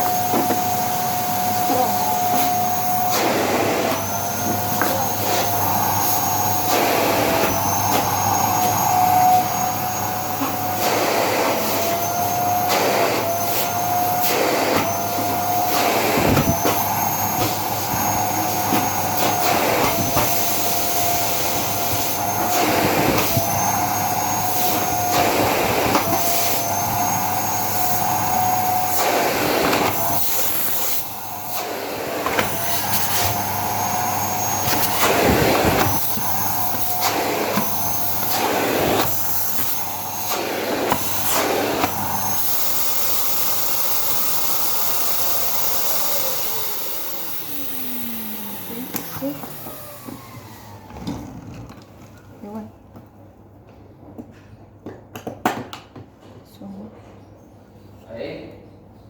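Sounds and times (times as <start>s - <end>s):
vacuum cleaner motor whine: 0.0s - 52.6s.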